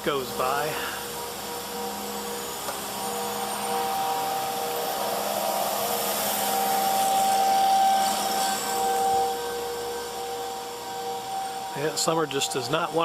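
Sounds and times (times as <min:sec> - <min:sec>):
outdoor warning siren: 0:00.0 - 0:13.0
vacuum truck blower: 0:00.0 - 0:13.0.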